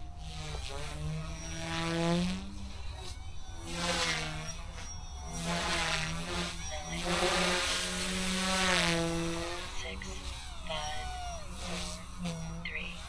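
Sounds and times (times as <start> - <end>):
toy helicopter rotor buzzing: 0.0 - 13.0.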